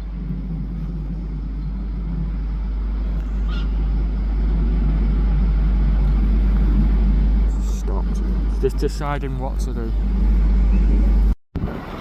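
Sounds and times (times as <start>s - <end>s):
diesel engine rumble: 0.0s - 11.4s.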